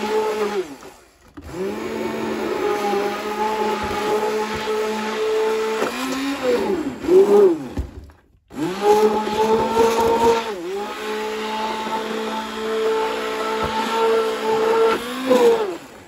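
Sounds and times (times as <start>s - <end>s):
immersion blender motor whining: 0.0s - 16.0s.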